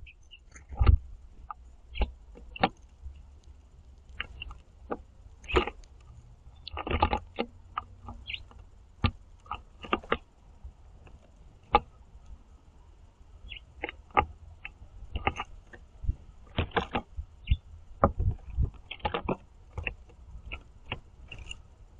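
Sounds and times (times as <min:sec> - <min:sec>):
birds chirping: 0:00.0 - 0:10.2, 0:11.0 - 0:21.6
beaks tapping on seed tray: 0:00.0 - 0:10.3, 0:11.0 - 0:12.0, 0:13.5 - 0:21.6.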